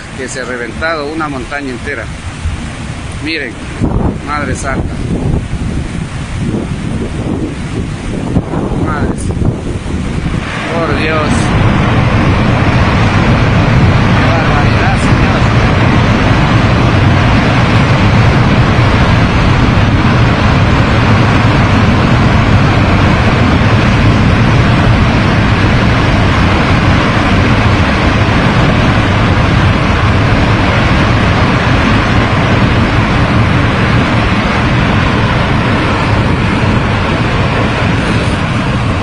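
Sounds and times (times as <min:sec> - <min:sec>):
debris flow rushing rumble: 0:00.0 - 0:39.0.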